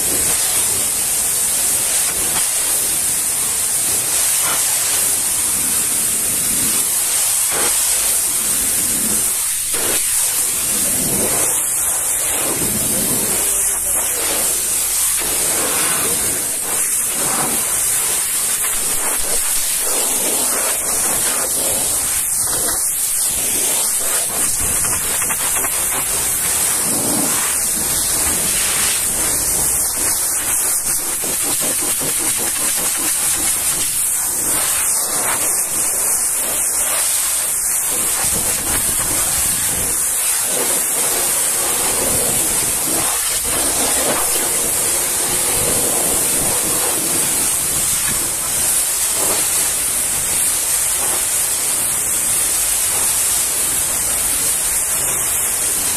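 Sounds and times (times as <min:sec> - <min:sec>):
pressure washer jet spraying: 0:00.0 - 0:55.9.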